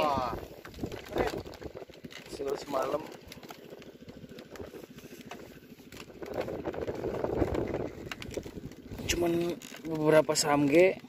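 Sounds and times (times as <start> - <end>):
engine running with rapid pulse: 0.0 - 11.0.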